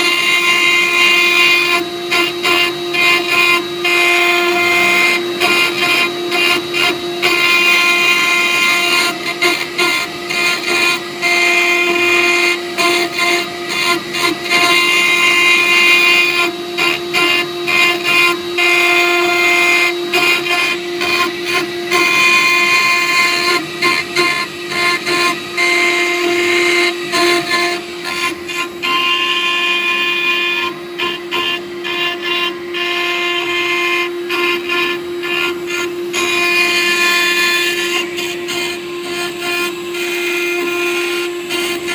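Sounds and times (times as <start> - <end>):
cnc router bit engraving glass: 0.0 - 41.9.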